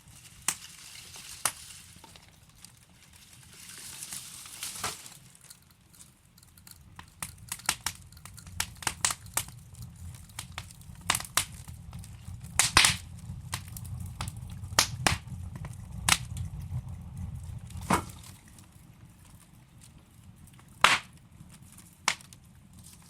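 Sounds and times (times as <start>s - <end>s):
burning logs popping and snapping: 0.0s - 23.0s
low steady fire rumble: 0.0s - 23.0s.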